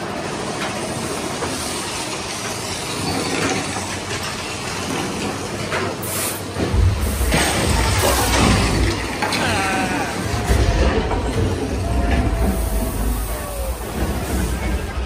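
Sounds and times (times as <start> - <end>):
roller coaster rattling on track: 0.0 - 15.0
wind: 0.0 - 15.0.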